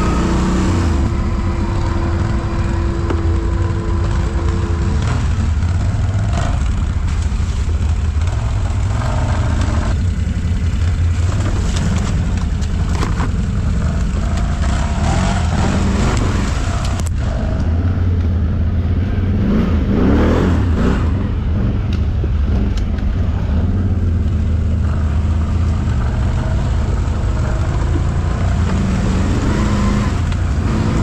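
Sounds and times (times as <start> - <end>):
atv engine running at low revs: 0.0 - 31.0.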